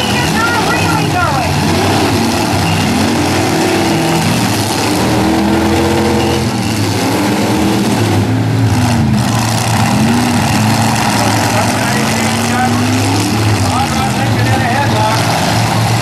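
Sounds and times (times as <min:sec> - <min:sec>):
truck engines revving hard: 0:00.0 - 0:16.0.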